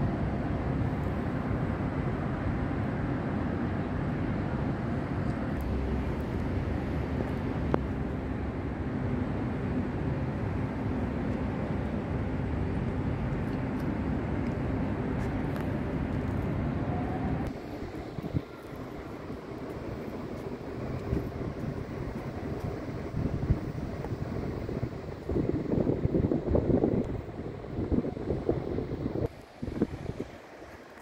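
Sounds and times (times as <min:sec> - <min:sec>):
low city rumble: 0:00.0 - 0:31.0.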